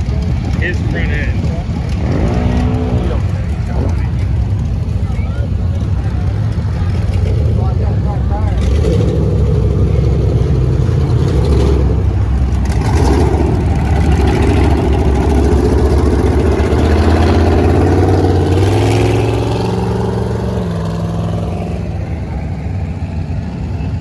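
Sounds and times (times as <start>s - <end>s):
off-road vehicle engine under load: 0.0s - 24.0s.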